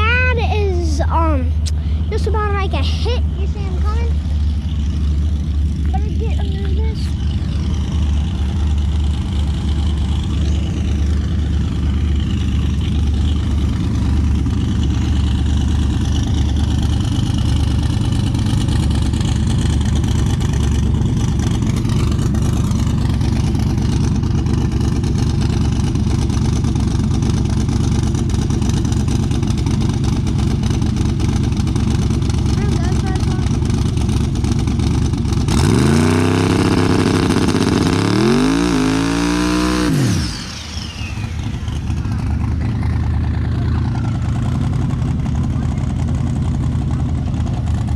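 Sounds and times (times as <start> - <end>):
car engine rumbling: 0.0 - 47.9.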